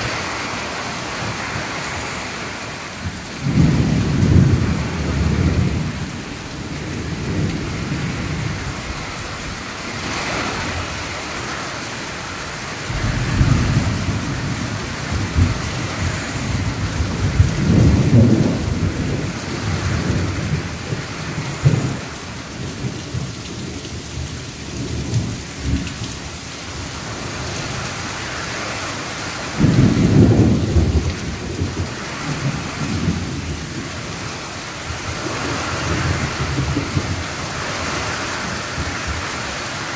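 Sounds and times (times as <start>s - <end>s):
thunder rumbling: 0.0s - 26.1s, 26.7s - 39.9s
heavy rain pouring: 0.0s - 39.9s.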